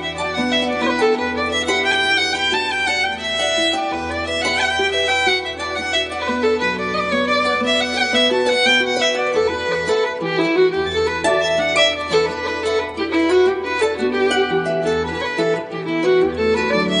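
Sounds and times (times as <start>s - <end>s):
instrumental music: 0.0s - 17.0s.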